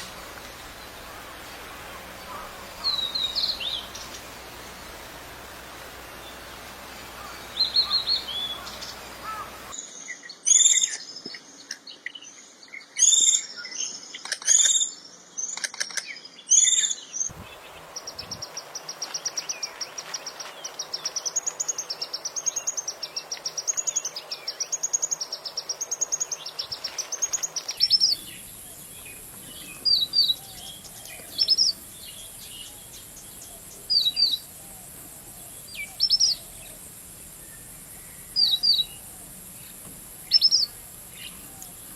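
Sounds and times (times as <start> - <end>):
steady high hiss: 0.0 - 9.8, 17.3 - 41.9
songbirds singing: 0.0 - 41.9.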